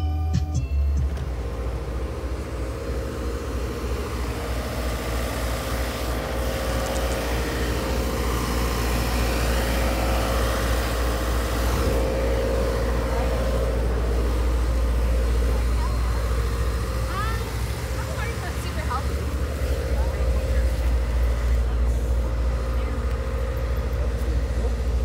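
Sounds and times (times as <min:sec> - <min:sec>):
motor vehicle low rumble: 0:00.0 - 0:25.0.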